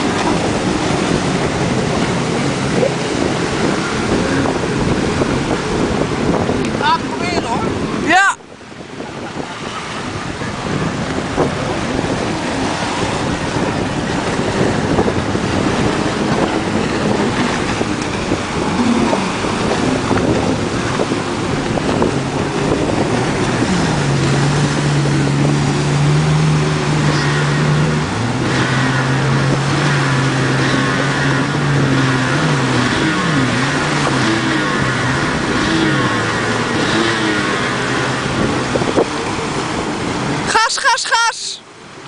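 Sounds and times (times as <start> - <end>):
wind noise: 0.0 - 40.6
jet ski engine running: 0.0 - 42.0
water noise: 0.0 - 42.0.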